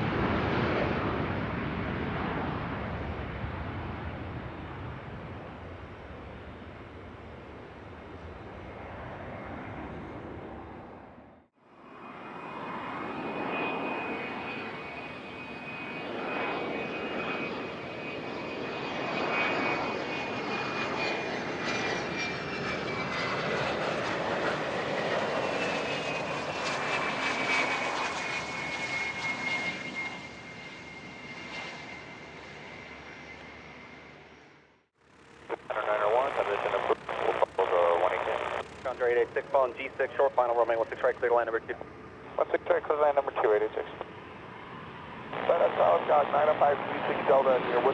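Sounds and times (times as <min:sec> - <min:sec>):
jet passing: 0:00.0 - 0:34.4, 0:35.3 - 0:47.9.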